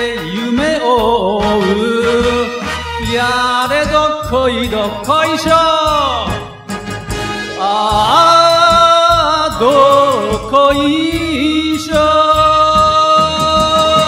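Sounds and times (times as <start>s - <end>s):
person singing: 0.0s - 6.7s, 7.4s - 14.0s
backing track with steady beat: 0.0s - 14.0s.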